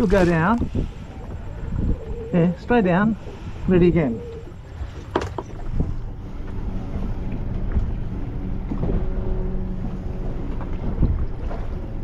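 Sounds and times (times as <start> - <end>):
boat engine humming: 0.0 - 12.0
wind rumbling on microphone: 0.0 - 12.0.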